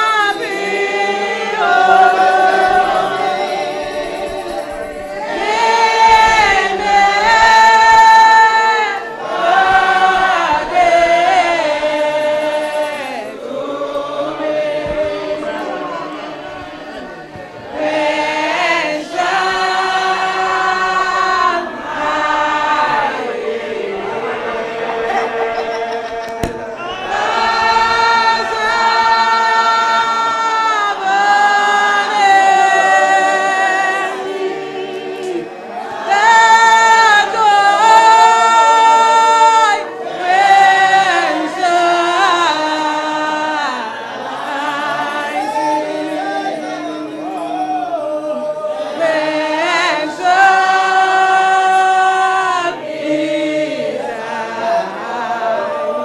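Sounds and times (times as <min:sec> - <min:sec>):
woman singing over a microphone: 0:00.0 - 0:35.4, 0:36.0 - 0:46.8, 0:48.3 - 0:52.8
congregation singing a hymn: 0:00.0 - 0:56.0.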